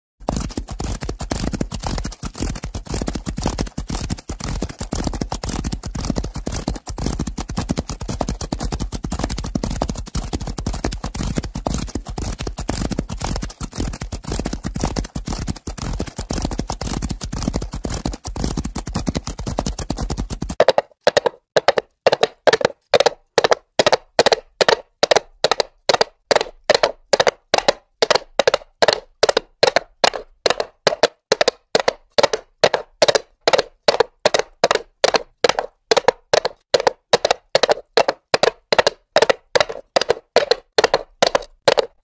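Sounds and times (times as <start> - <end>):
horses galloping: 0.3 - 42.0.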